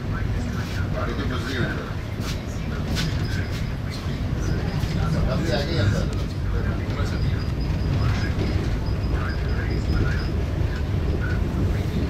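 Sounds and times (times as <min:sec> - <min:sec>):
faint passenger chatter: 0:00.0 - 0:12.0
train coach running rumble: 0:00.0 - 0:12.0.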